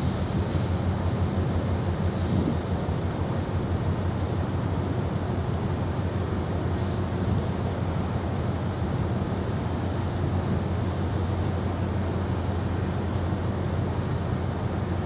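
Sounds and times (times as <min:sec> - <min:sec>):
wind and water noise: 0:00.0 - 0:15.0.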